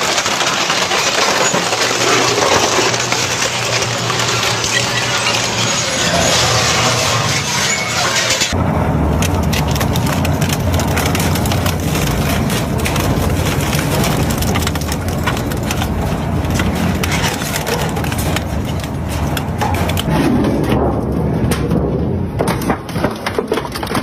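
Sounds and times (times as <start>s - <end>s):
crushing machine droning: 0.0s - 24.0s
material cracking and crunching: 0.0s - 24.0s.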